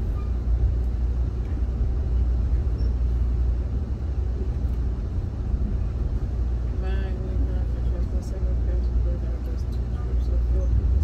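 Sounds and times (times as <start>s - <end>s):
train car rumbling: 0.0s - 11.0s.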